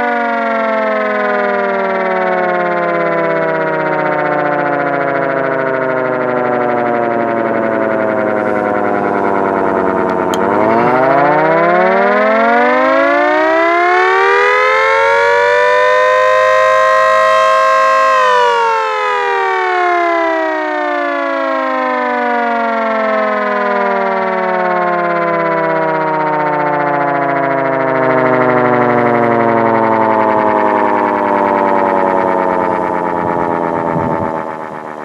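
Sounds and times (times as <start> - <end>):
mechanical siren wailing: 0.0 - 35.0.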